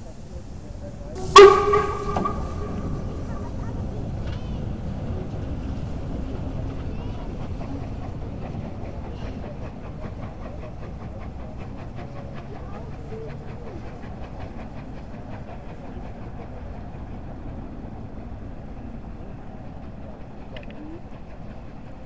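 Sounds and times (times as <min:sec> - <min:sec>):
steam locomotive chuffing: 0:00.0 - 0:22.0.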